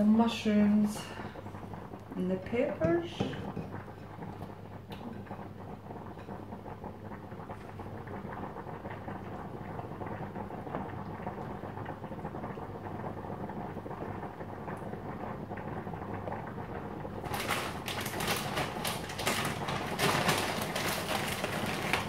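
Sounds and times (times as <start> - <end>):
low steady hum: 0.0 - 22.0
pans boiling and bubbling: 0.0 - 22.0.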